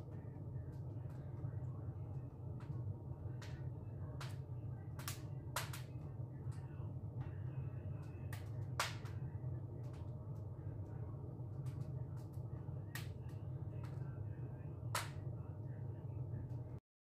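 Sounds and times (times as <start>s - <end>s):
low steady hum: 0.0s - 16.8s.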